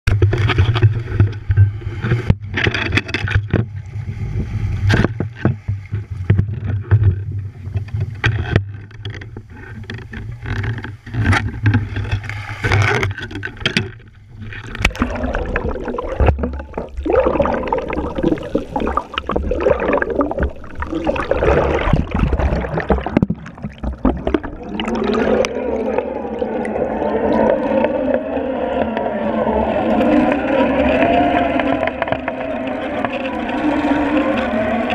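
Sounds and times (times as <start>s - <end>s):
rush of water: 0.1s - 34.9s
underwater wavering hum: 0.1s - 34.9s.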